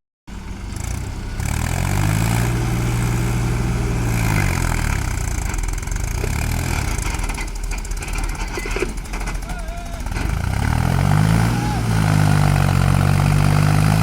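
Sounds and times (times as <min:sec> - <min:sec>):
diesel engine revving: 0:00.3 - 0:14.0.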